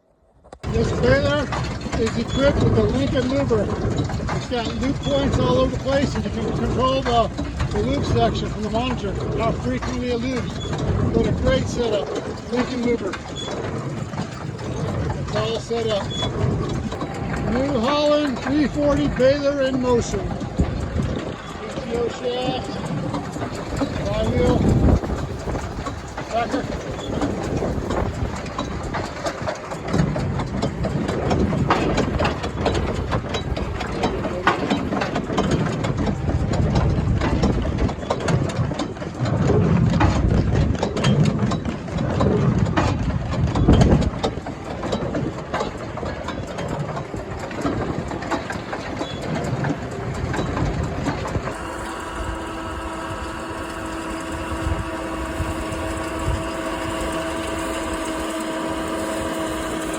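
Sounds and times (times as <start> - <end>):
baler mechanical clatter: 0.5 - 59.9
tractor engine: 0.6 - 41.0, 41.6 - 59.9
steady engine hum: 0.6 - 59.9.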